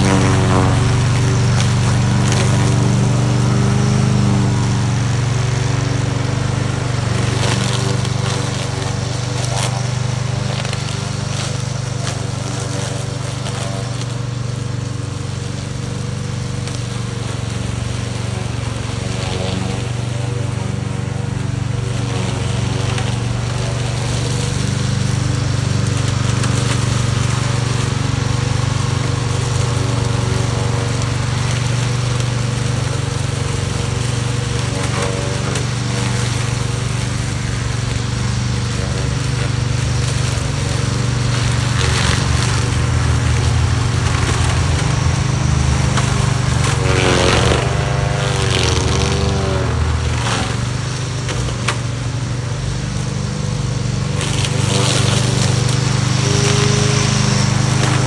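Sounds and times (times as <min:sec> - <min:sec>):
lawn mower running: 0:00.0 - 0:58.0.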